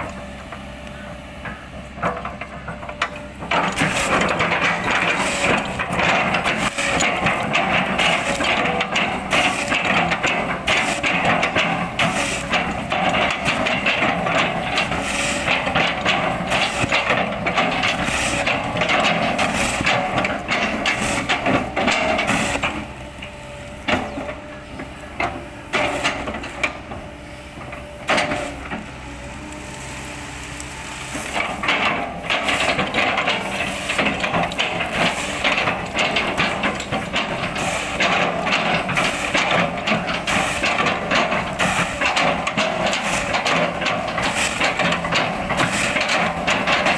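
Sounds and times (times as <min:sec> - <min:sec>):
excavator engine under load: 0:00.0 - 0:46.9.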